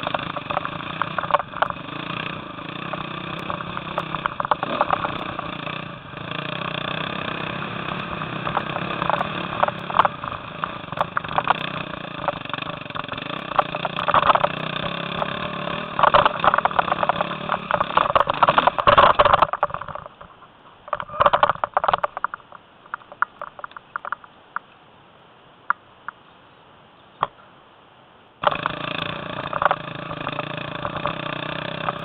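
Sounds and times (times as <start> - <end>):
knocks and clicks: 0.0 - 6.6, 7.3 - 24.7, 28.4 - 32.0
rattling clicks: 0.0 - 6.6, 7.2 - 24.7, 28.4 - 32.0
motorcycle engine running: 0.0 - 24.2, 28.4 - 32.0.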